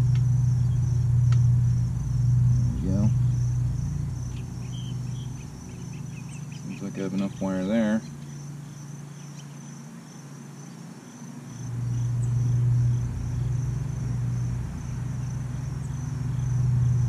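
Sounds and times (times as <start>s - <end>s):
crickets chirring: 0.0s - 17.0s
low steady hum: 0.0s - 17.0s.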